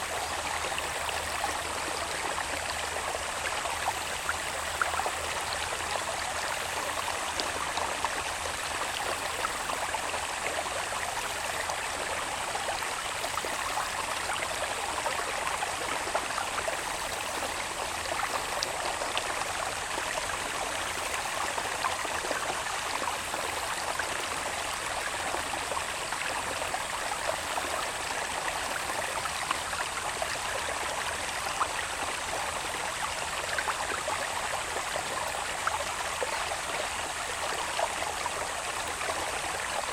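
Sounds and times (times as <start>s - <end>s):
water babbling in a channel: 0.0s - 39.9s.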